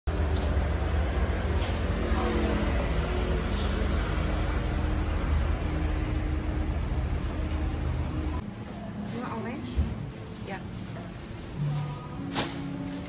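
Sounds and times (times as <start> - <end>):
street traffic rumble: 0.1 - 13.0.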